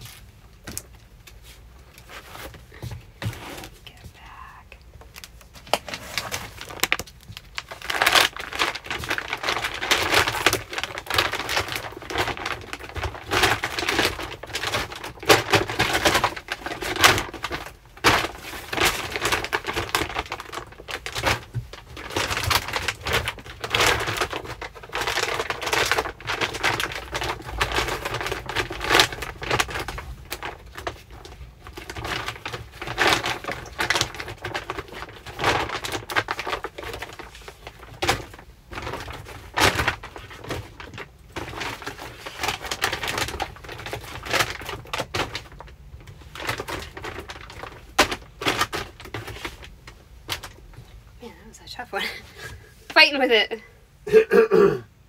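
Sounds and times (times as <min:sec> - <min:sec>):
plastic packaging crinkling: 0:00.0 - 0:53.4.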